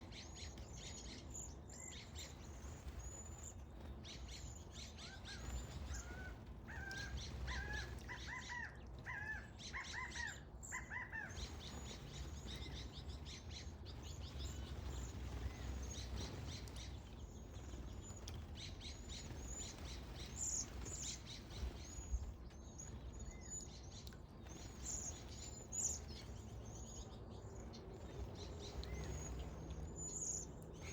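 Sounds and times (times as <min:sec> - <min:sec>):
birds high thin calls: 0:00.1 - 0:30.9.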